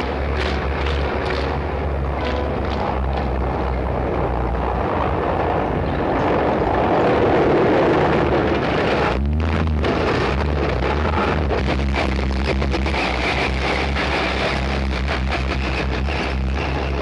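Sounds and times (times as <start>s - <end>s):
heavy vehicle engines rumbling: 0.0s - 17.0s.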